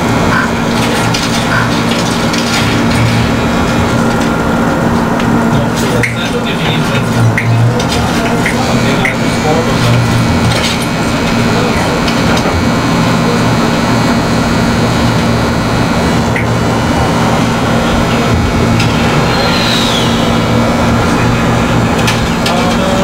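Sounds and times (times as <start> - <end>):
tattoo machine humming: 0.0 - 23.0.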